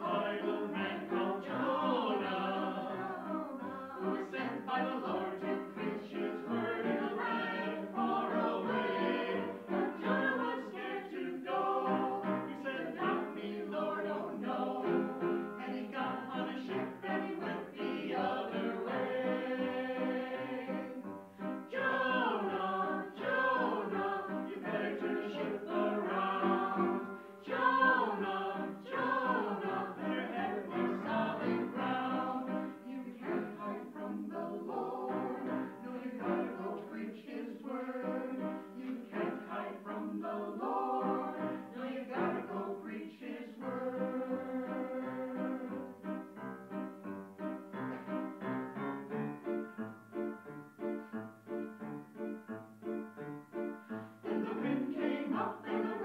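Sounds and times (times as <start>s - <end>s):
church choir singing: 0.0s - 49.1s, 53.5s - 56.0s.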